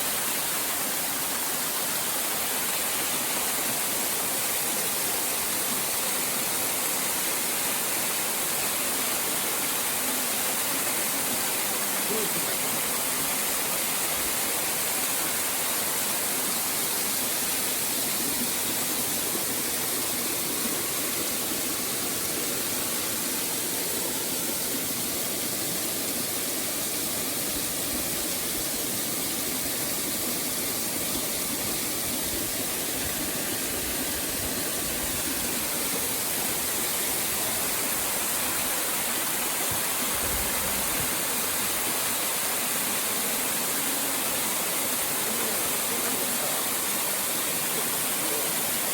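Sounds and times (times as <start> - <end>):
waterfall roaring: 0.0 - 48.9.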